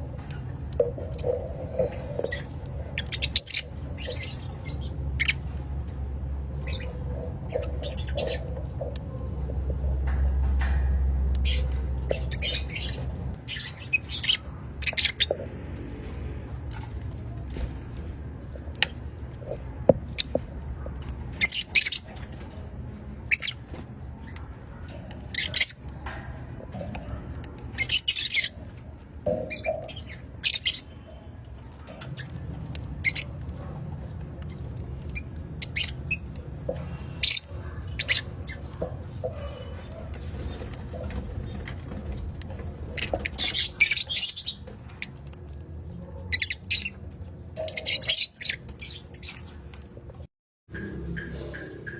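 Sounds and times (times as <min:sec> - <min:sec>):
birds squawking and chirping: 0:00.0 - 0:50.3, 0:51.0 - 0:51.9.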